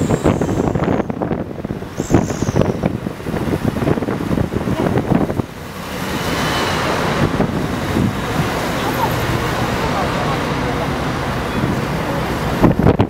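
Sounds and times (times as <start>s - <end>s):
road traffic hum: 0.0s - 13.0s
wind buffeting microphone: 0.0s - 13.0s.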